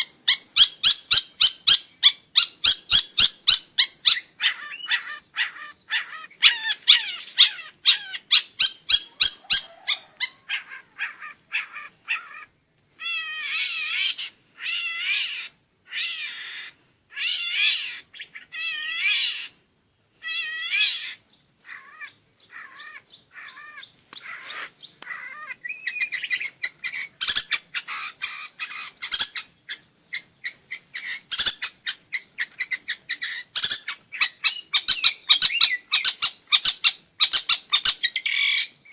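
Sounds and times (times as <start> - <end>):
shrike singing: 0.0 - 38.9.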